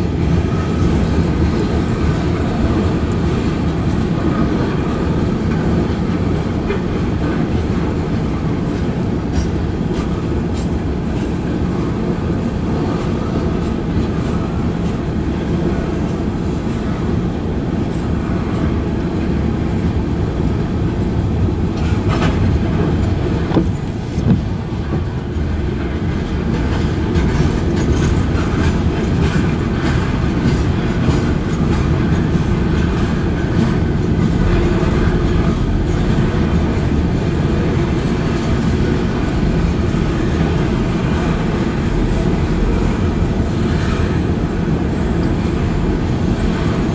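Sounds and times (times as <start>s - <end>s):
train wheels rumbling and clattering: 0.0s - 46.9s.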